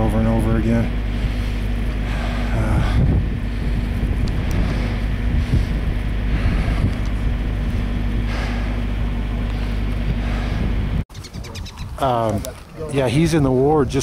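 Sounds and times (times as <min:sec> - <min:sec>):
vehicle engine idling: 0:00.0 - 0:14.0
wind noise on microphone: 0:00.9 - 0:12.4.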